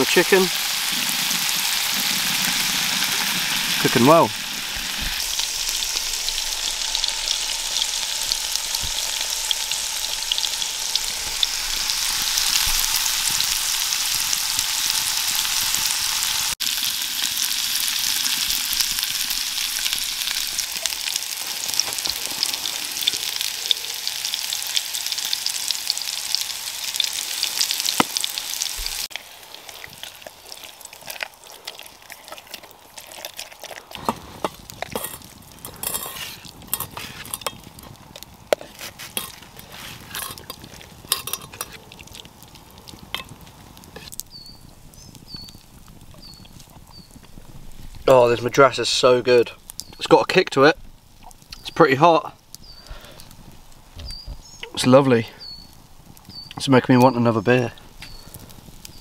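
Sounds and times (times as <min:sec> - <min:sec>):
chicken sizzling in a pan: 0:00.0 - 0:59.0.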